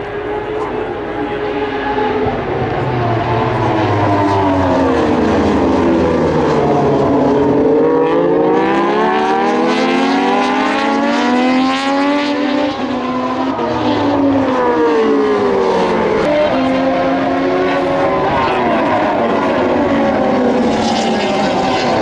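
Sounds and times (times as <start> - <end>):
racing motorcycles at high revs: 0.0 - 22.0.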